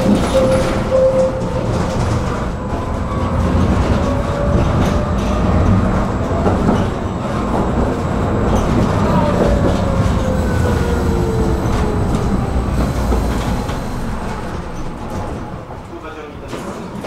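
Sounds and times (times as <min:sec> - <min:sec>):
tram rumbling on rails: 0:00.0 - 0:17.0.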